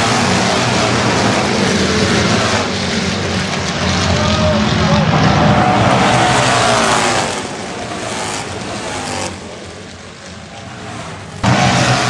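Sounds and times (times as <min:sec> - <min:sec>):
motorcycles passing at speed: 0:00.0 - 0:12.0.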